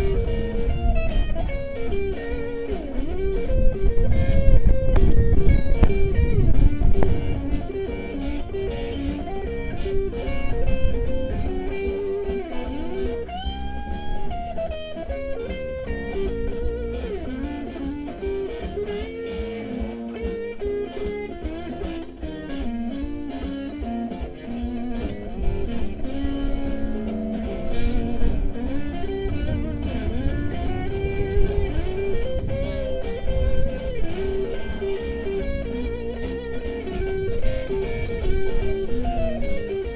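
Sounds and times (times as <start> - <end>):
band backing: 0.0 - 39.9
blues guitar solo: 0.0 - 39.9.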